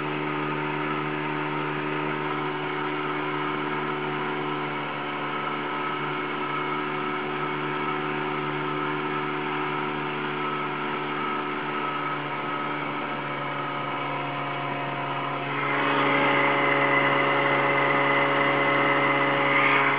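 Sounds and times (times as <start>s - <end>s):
outboard motor drone: 0.0s - 19.9s.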